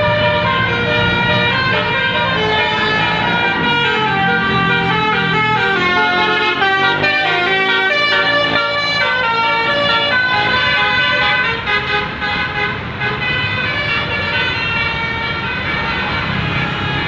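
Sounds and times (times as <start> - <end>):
engine rumble: 0.0 - 14.4
bus horn playing a melody: 0.0 - 17.0
street noise: 0.0 - 17.0.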